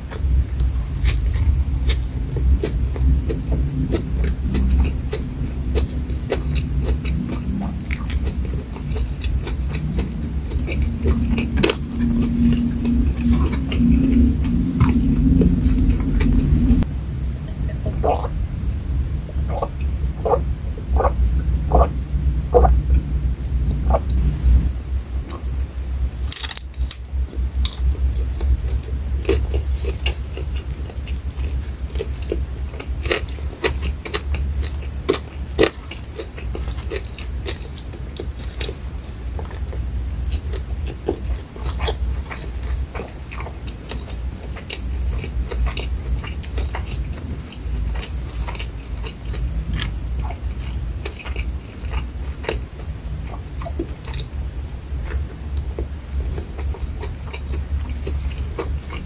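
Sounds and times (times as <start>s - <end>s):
crunchy chewing of fried shrimp: 0.0s - 59.0s
steady low hum: 0.0s - 59.0s.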